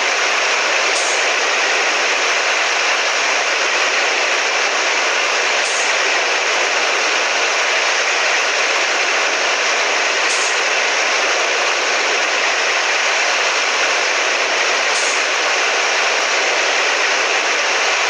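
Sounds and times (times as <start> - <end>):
diesel truck engine running: 0.0 - 18.0
road noise: 0.0 - 18.0.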